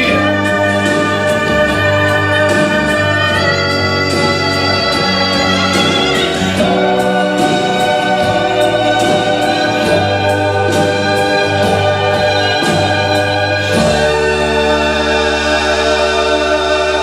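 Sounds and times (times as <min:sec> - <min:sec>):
choir singing held chords: 0:00.0 - 0:17.0
sustained bass notes: 0:00.0 - 0:17.0.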